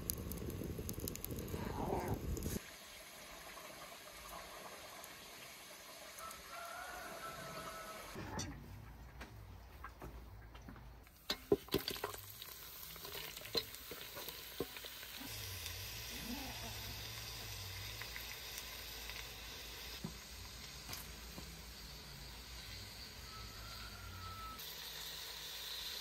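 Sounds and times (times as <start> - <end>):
food sizzling in a pot: 0.0 - 8.2, 11.2 - 26.0.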